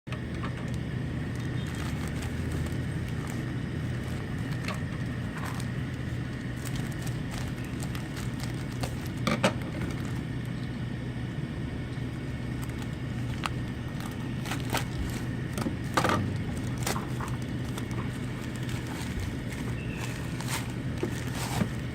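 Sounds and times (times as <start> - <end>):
packaging clicks and crackles: 0.1 - 10.6, 12.4 - 21.9
steady low hum: 0.1 - 21.9.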